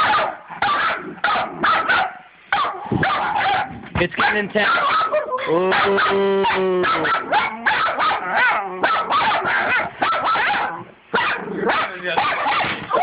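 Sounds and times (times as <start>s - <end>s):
puppies barking and yipping: 0.0s - 13.0s.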